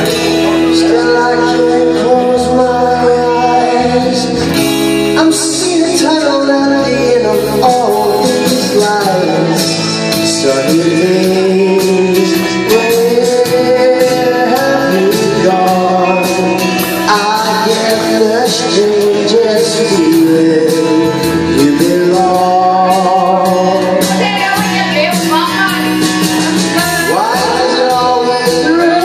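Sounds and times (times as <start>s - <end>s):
backing track with drum beat: 0.0s - 29.0s
man singing into a microphone: 0.0s - 29.0s.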